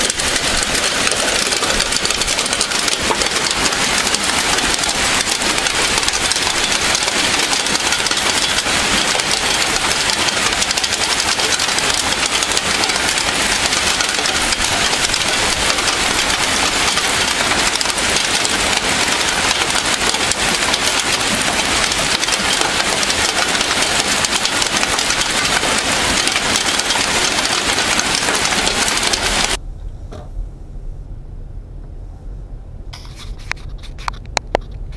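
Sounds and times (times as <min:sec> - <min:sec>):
heavy rain and hail: 0:00.0 - 0:29.6.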